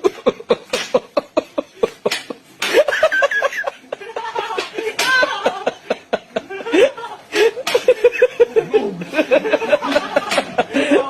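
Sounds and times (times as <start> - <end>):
person laughing in rhythmic bursts: 0.0 - 11.0
voices talking and laughing: 0.0 - 11.0.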